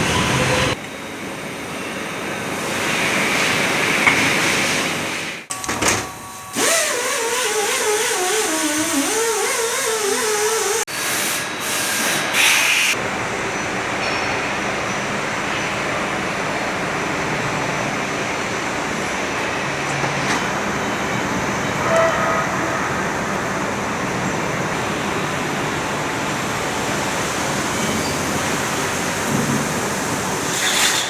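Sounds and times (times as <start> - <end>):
factory machinery noise: 0.0 - 9.1, 9.9 - 31.0.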